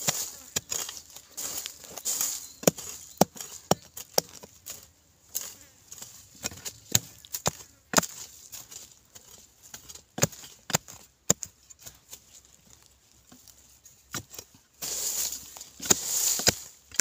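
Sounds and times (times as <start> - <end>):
metal tool chopping into soil: 0.0 - 12.2, 14.1 - 14.9, 15.5 - 17.0
gritty scatter of soil: 0.0 - 17.0.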